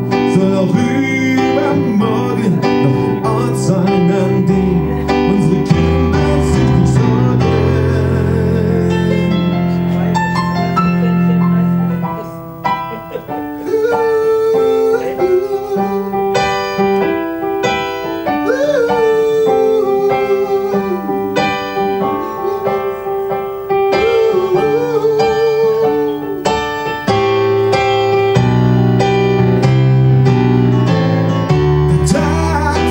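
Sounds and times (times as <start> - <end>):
solo piano melody over chords: 0.0 - 32.9.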